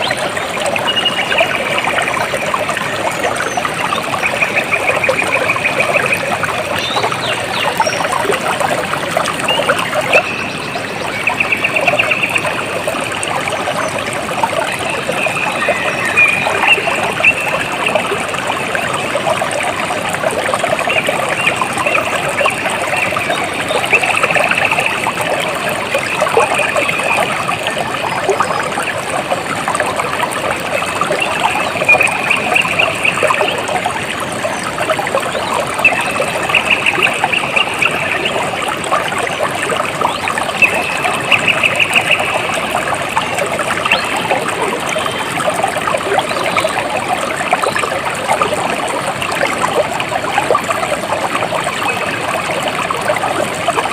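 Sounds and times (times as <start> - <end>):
water trickling over rocks: 0.0 - 53.9.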